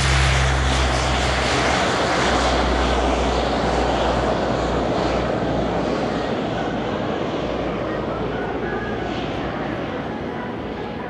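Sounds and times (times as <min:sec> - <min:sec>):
low propeller hum: 0:00.0 - 0:11.0
turboprop engines roaring: 0:00.0 - 0:11.0.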